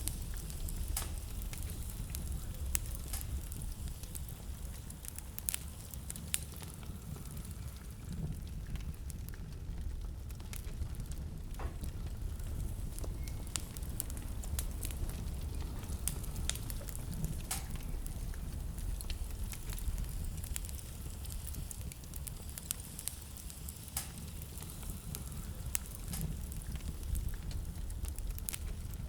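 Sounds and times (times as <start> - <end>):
fire low rumble: 0.0 - 29.0
wood fire crackling and popping: 0.0 - 29.0.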